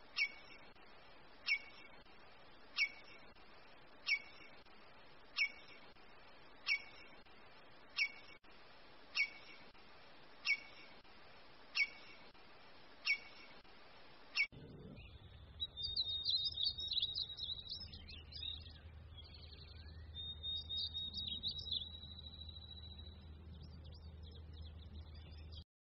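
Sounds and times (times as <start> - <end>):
faint low hum: 0.0 - 25.6.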